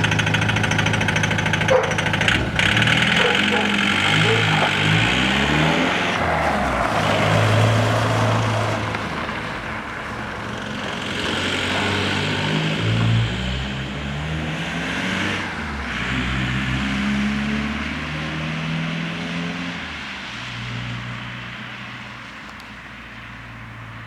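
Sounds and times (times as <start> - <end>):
van engine revving: 0.0 - 20.1.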